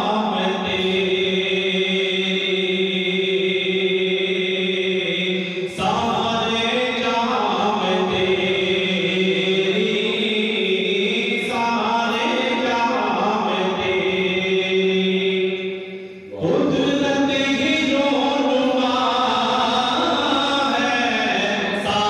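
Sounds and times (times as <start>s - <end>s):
man chanting unaccompanied: 0.0s - 22.0s.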